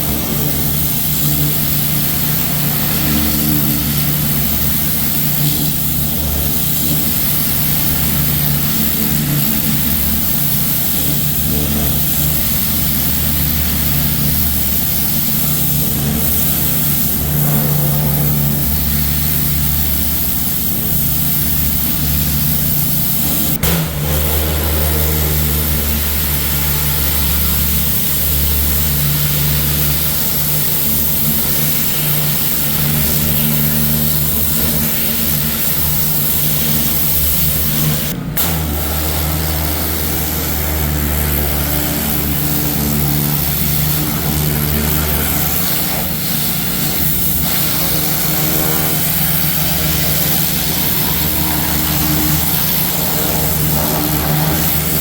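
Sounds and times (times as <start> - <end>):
pressure washer motor hum: 0.0 - 55.0
water spray hiss: 0.0 - 55.0.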